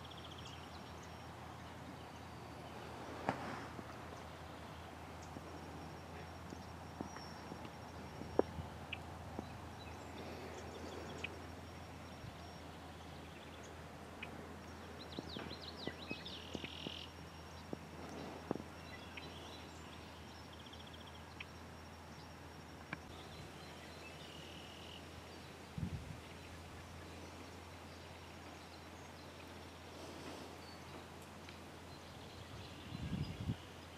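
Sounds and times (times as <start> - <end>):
small birds chirping: 0.0 - 33.9
steady low hum: 0.0 - 33.9.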